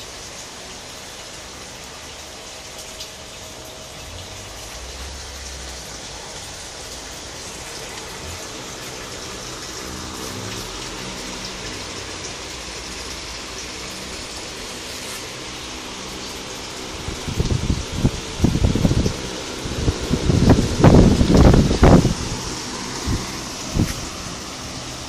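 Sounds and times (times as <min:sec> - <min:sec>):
water hissing: 0:00.0 - 0:25.0.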